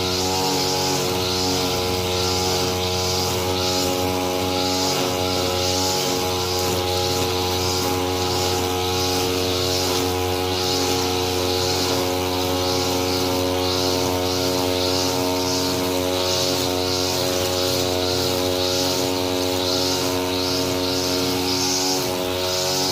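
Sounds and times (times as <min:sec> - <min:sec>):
lawn mower engine running: 0:00.0 - 0:22.9
pulsing hiss: 0:00.0 - 0:22.9.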